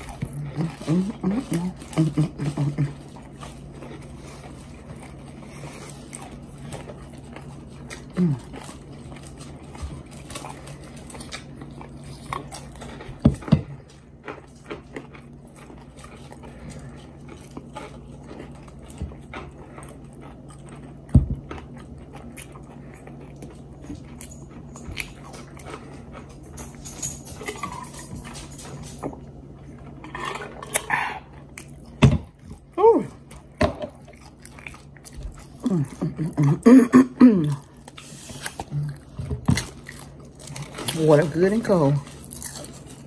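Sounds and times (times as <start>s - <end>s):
crunchy chewing: 0.0s - 43.0s
low steady hum: 0.0s - 43.0s.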